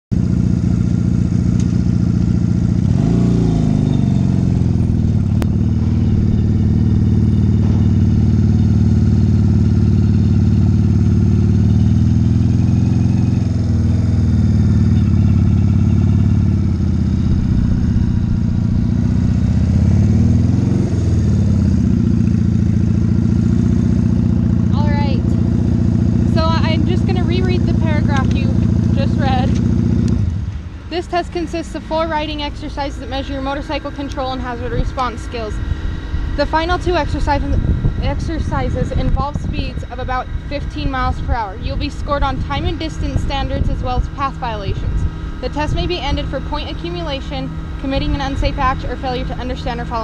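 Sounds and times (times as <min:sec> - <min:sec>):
motorcycle engine running and revving: 0:00.0 - 0:50.0.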